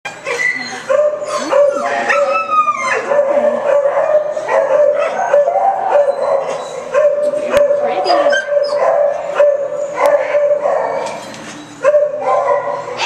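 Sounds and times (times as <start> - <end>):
dog yelping: 0.2 - 11.1
dogs barking: 0.2 - 11.2, 11.8 - 13.0
dogs howling: 0.2 - 11.2.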